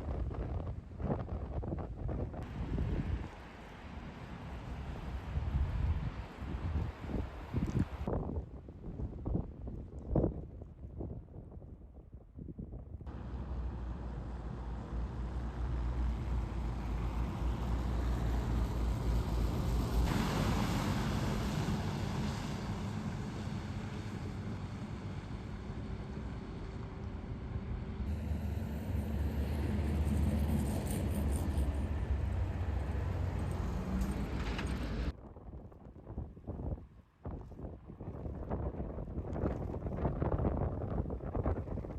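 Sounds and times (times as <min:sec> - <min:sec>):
storm wind buffeting microphone: 0:00.0 - 0:41.9.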